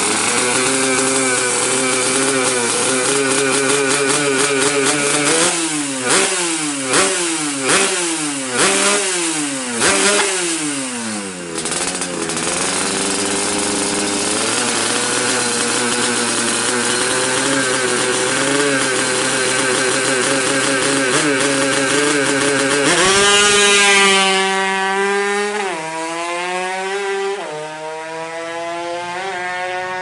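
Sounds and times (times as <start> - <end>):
two-stroke motorcycle engine revving: 0.0 - 30.0.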